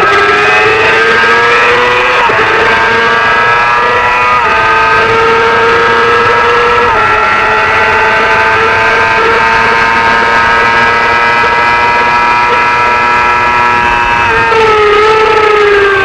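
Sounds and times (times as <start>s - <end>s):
motorcycle engine at high revs: 0.0s - 16.0s
quick gear upshifts: 0.0s - 16.0s.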